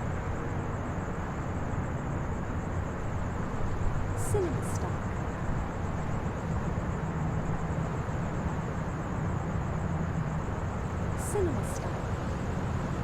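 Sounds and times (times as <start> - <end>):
crickets chirping: 0.0 - 13.0
low rumble and hiss: 0.0 - 13.0.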